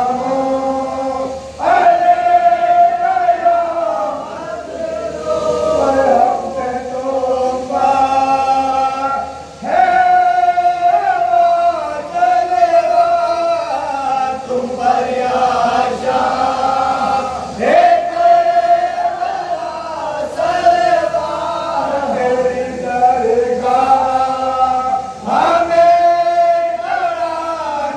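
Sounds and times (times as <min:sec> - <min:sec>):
men chanting in unison: 0:00.0 - 0:27.9.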